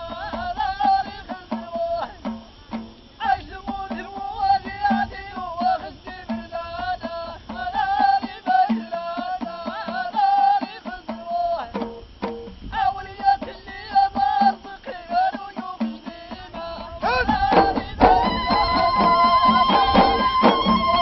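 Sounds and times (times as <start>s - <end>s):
frame drums: 0.0s - 21.0s
group singing in unison: 0.0s - 21.0s.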